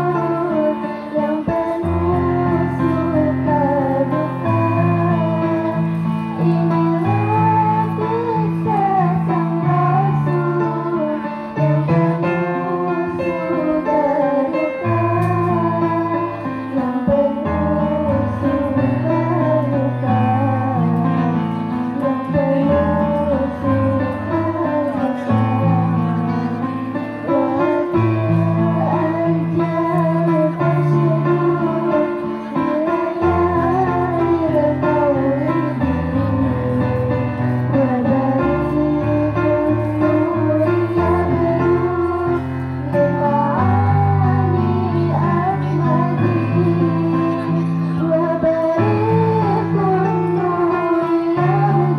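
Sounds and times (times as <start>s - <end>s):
electronic keyboard chords: 0.0s - 51.9s
girls singing: 0.0s - 51.9s.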